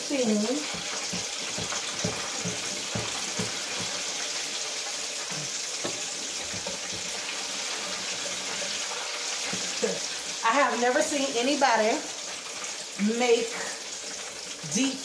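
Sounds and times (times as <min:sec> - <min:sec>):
oil frying with crackles: 0:00.0 - 0:15.0.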